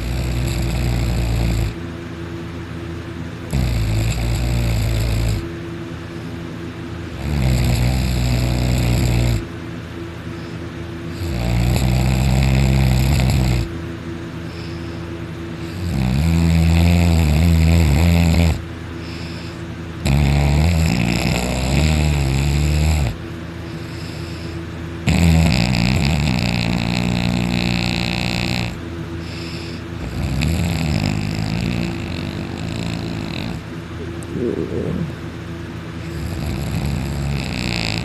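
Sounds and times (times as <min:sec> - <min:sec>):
person snoring heavily: 0:00.0 - 0:01.8, 0:03.5 - 0:05.5, 0:07.2 - 0:09.5, 0:11.1 - 0:13.7, 0:15.6 - 0:35.3, 0:36.0 - 0:38.0.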